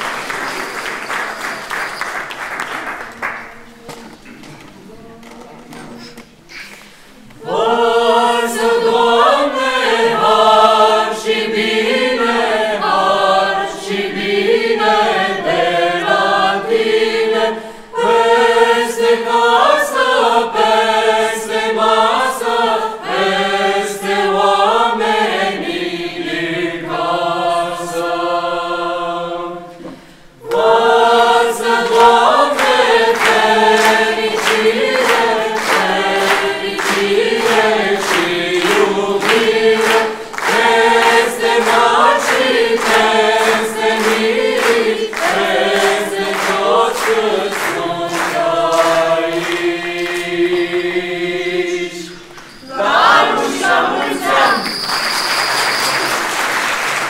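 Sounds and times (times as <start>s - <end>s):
mixed choir singing a cappella: 7.4s - 55.0s.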